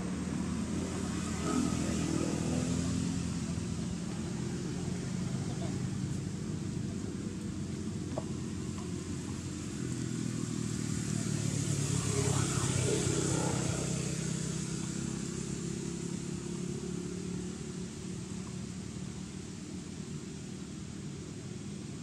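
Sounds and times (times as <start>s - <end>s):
vehicle engine passing by: 0.0s - 19.9s.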